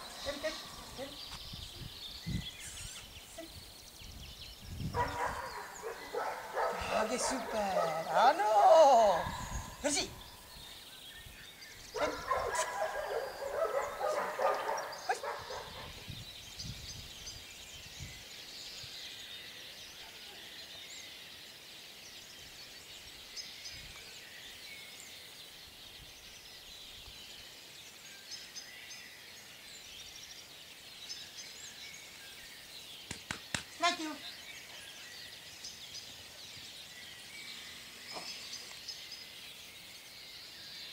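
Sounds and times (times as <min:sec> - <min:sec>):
faint birdsong chirps: 0:00.0 - 0:40.9.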